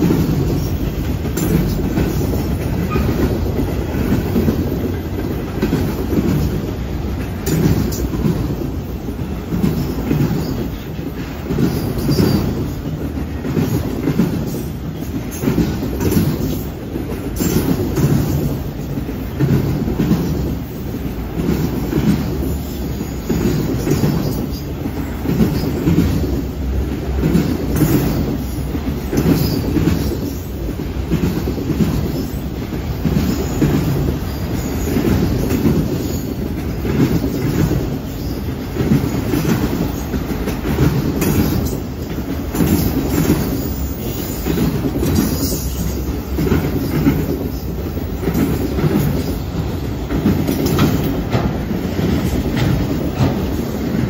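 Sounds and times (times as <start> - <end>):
train rumble: 0.0 - 54.0
train wheels clacking on rails: 0.0 - 54.0.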